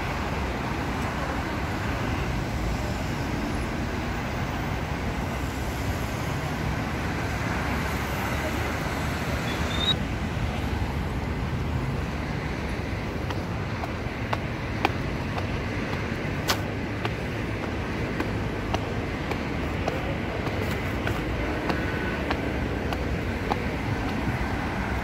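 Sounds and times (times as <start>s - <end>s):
passing cars: 0.0s - 25.0s.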